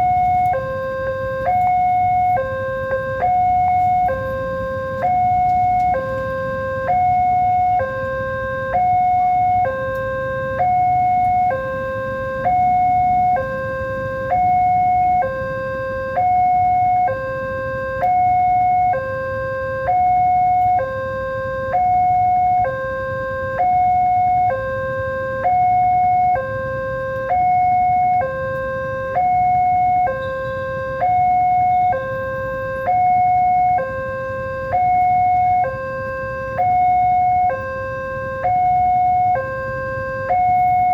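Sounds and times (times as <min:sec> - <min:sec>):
level crossing two-tone alarm: 0:00.0 - 0:40.9.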